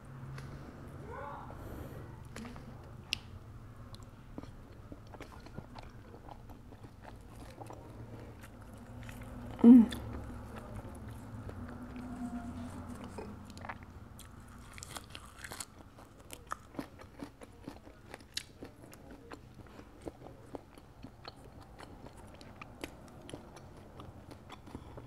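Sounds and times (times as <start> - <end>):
close chewing with wet clicks: 2.2 - 25.0.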